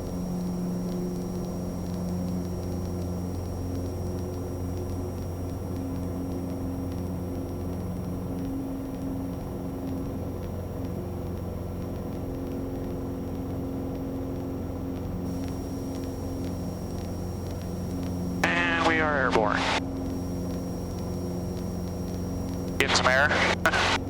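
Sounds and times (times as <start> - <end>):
light aircraft engine at full power: 0.0 - 24.0.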